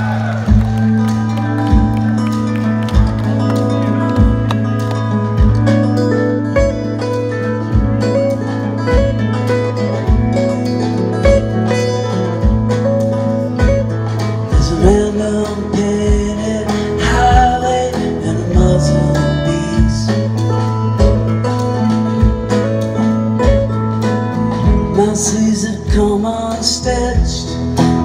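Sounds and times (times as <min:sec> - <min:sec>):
electric bass: 0:00.0 - 0:28.0
acoustic guitar picking: 0:00.4 - 0:28.0.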